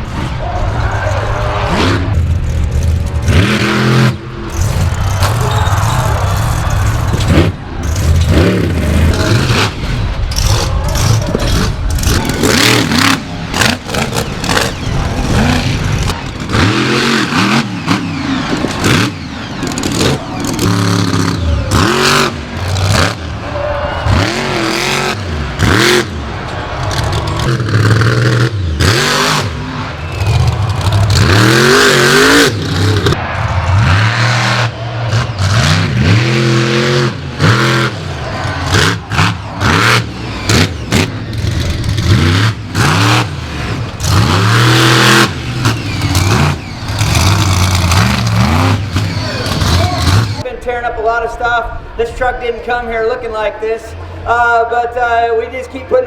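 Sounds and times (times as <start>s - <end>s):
truck engine revving: 1.2s - 50.5s.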